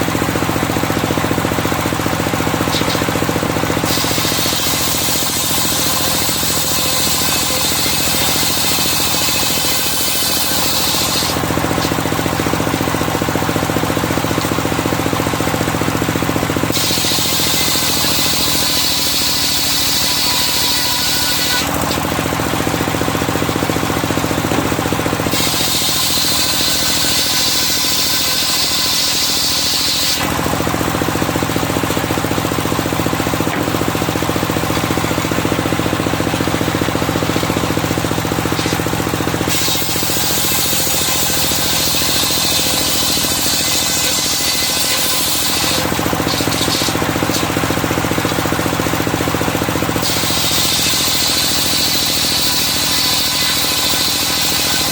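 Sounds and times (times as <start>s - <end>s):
circular saw blade cutting logs: 0.0s - 54.9s
sawmill machine droning: 0.0s - 54.9s.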